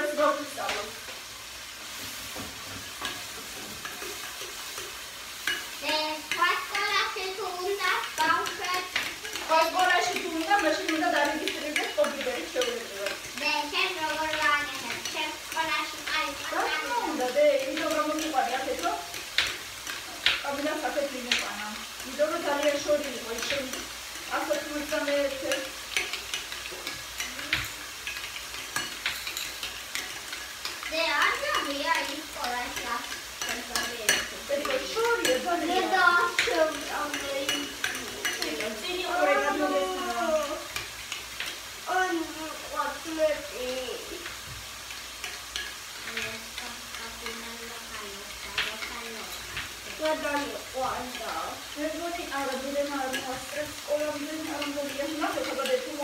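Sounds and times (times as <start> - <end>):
food sizzling in a frying pan: 0.0 - 56.0
stirring knocks and scrapes: 0.1 - 56.0.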